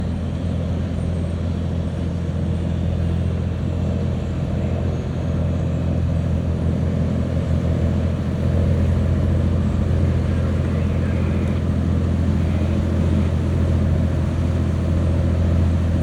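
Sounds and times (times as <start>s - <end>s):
boat engines droning: 0.0s - 16.0s.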